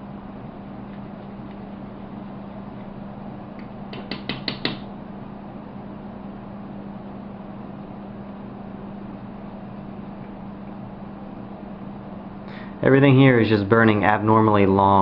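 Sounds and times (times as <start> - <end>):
room tone hum and hiss: 0.0 - 15.0.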